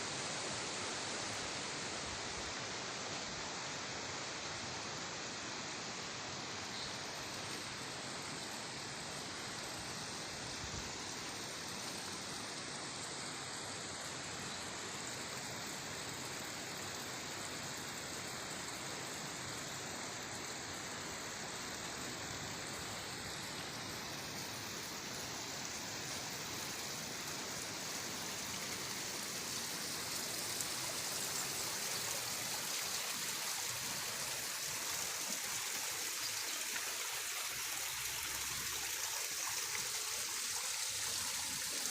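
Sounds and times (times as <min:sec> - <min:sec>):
stream water running: 0:00.0 - 0:41.9.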